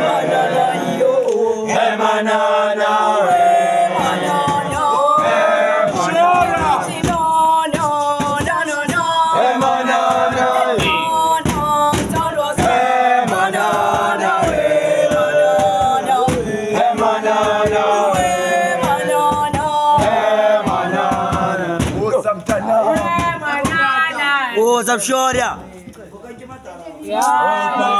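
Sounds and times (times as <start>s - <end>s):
boys singing a chant: 0.0s - 26.0s, 26.9s - 27.9s.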